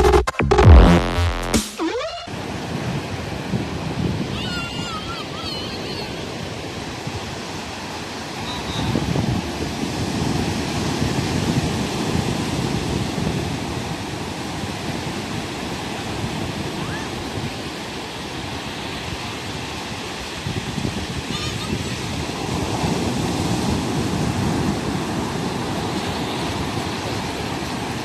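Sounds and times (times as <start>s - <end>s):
waves breaking on beach: 2.0s - 28.0s.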